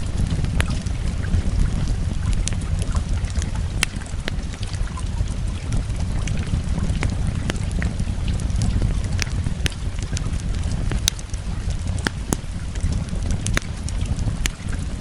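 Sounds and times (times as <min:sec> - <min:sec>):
fireplace crackling and popping: 0:00.0 - 0:15.0
rain hissing: 0:00.0 - 0:15.0.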